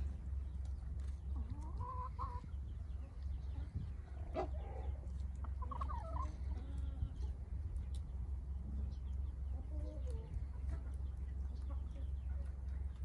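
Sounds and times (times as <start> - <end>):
chickens clucking softly: 0.0 - 13.0
steady low rumble: 0.0 - 13.0.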